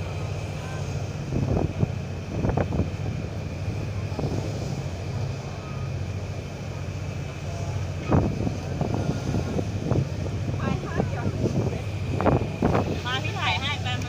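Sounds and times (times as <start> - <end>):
wind on microphone: 0.0 - 5.6, 7.5 - 14.0
ferry engine droning: 0.0 - 14.0.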